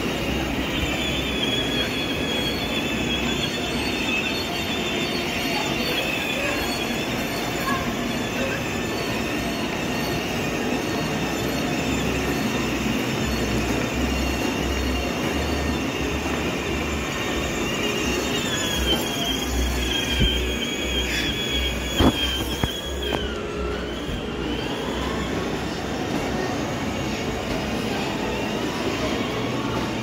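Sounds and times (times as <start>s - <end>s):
toy motorcycle electric motor whine: 0.0s - 25.8s.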